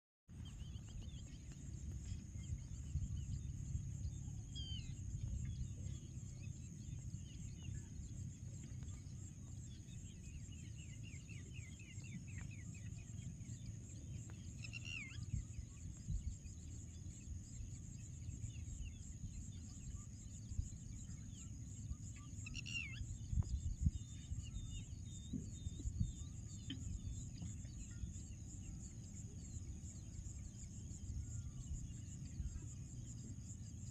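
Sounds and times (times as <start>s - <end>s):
bird chirps and trills: 0.3s - 33.9s.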